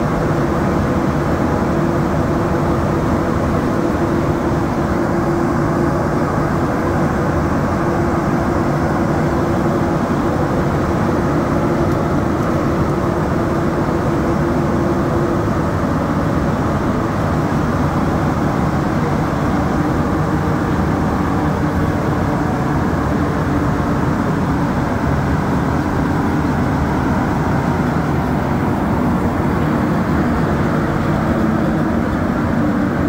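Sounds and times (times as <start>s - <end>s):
subway train running on rubber tyres: 0.0s - 33.0s.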